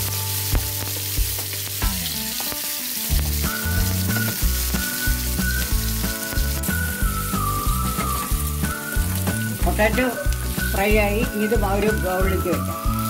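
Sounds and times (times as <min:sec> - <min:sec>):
background music: 0:00.0 - 0:13.0
oil sizzling in a pan: 0:00.0 - 0:13.0.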